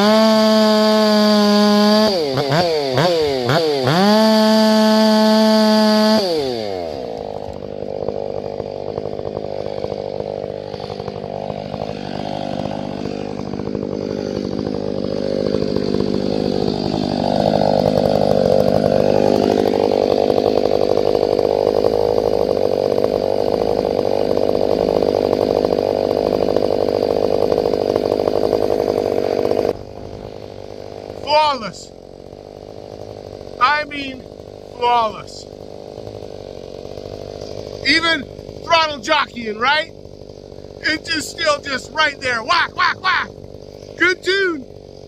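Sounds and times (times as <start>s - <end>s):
chainsaw running: 0.0s - 45.0s.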